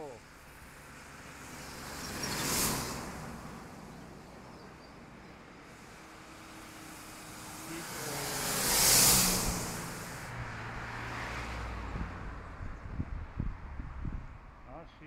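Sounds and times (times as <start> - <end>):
car driving past: 0.0 - 14.1
bus approaching: 0.0 - 14.8.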